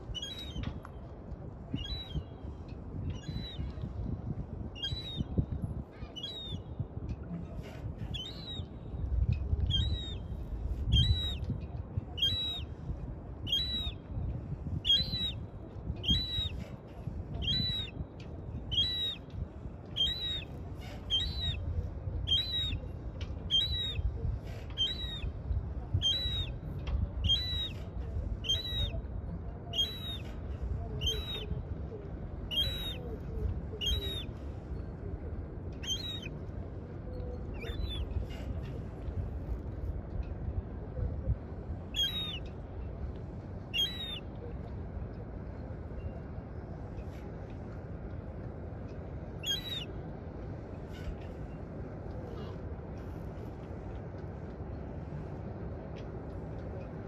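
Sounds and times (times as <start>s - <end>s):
low steady rumble: 0.0s - 57.0s.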